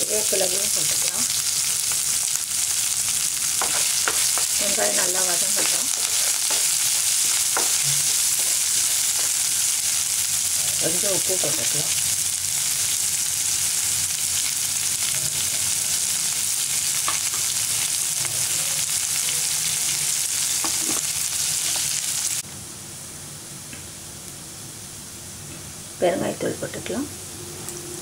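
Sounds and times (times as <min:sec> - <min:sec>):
onions sizzling in hot oil: 0:00.0 - 0:22.4.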